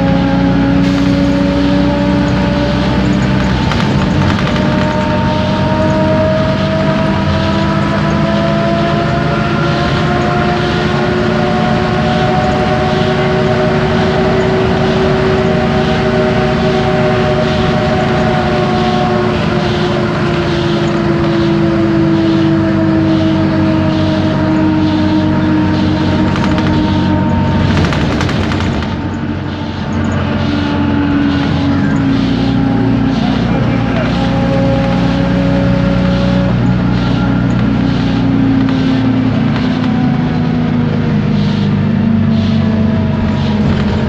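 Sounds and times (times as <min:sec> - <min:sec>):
bus drivetrain whine: 0:00.0 - 0:44.0
diesel engine: 0:00.0 - 0:44.0
road noise: 0:00.0 - 0:44.0.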